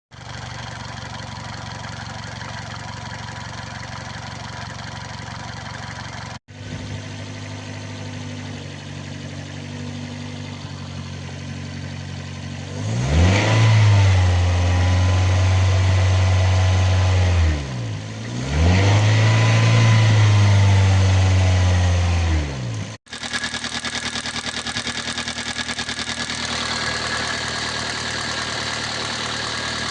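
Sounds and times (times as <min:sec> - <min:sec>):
car engine running and revving: 0:00.2 - 0:29.9.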